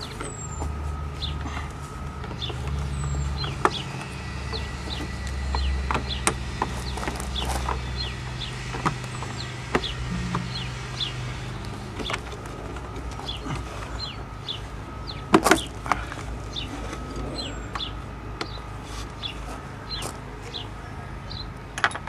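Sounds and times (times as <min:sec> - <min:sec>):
small birds chirping: 0:00.0 - 0:01.6, 0:02.2 - 0:12.4, 0:13.1 - 0:21.6
low steady hum: 0:00.0 - 0:21.9.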